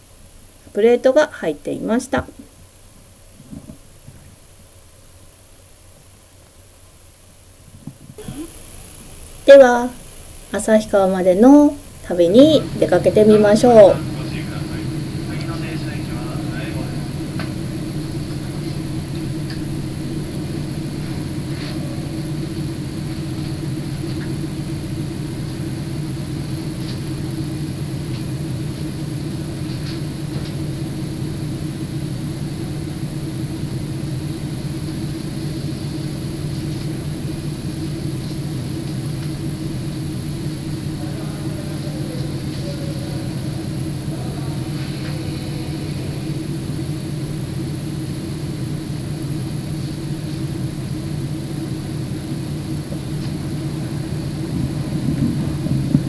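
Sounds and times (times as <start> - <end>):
diesel railcar engine idling: 9.5 - 56.0.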